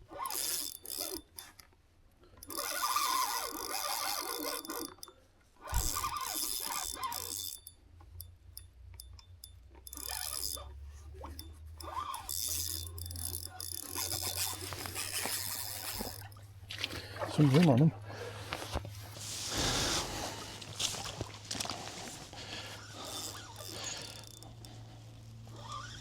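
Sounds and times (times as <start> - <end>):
fishing reel ratcheting: 0.0 - 1.7, 2.3 - 26.0.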